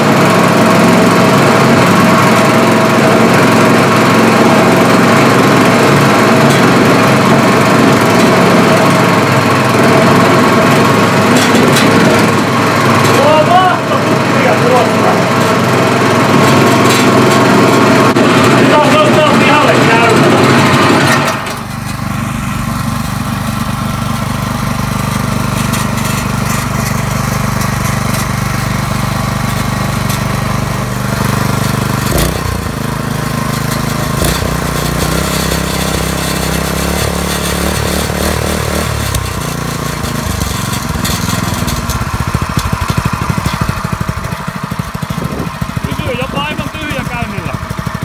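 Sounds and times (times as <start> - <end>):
engine running: 0.0 - 48.0.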